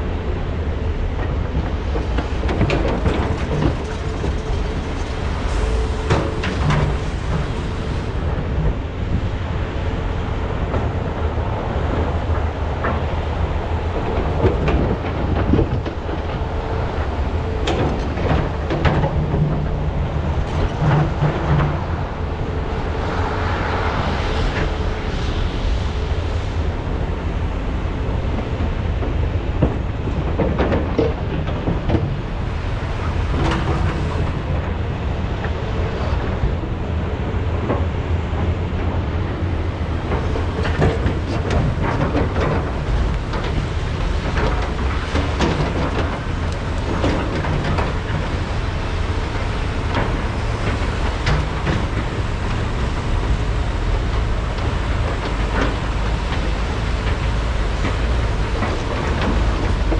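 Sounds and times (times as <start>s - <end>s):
excavator diesel engine rumble: 0.0s - 59.9s
loud rushing noise: 0.0s - 59.9s.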